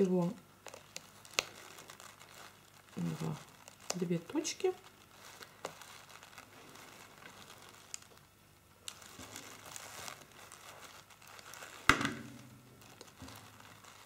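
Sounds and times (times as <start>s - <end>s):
crinkling of dried orange slice: 0.0s - 14.0s.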